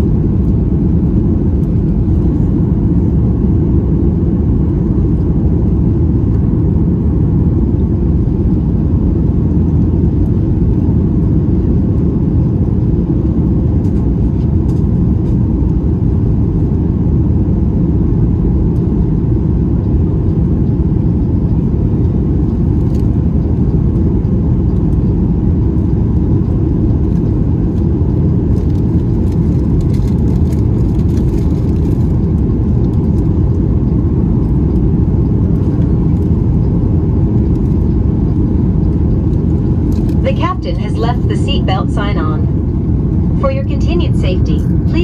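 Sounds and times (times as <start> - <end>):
jet engines deep rumble: 0.0 - 45.0.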